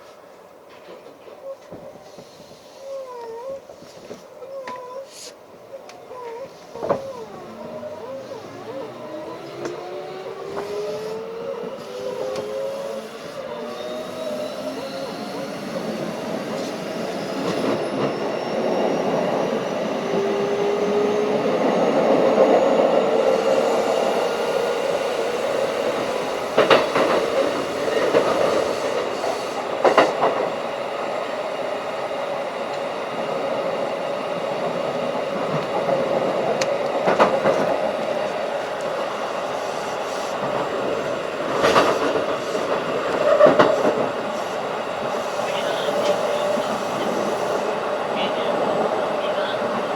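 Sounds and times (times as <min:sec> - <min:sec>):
electric train motor whine: 0:05.8 - 0:49.9.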